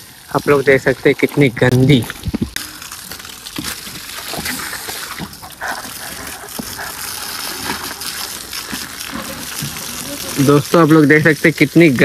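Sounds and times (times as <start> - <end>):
water spraying on horse: 0.0 - 12.0.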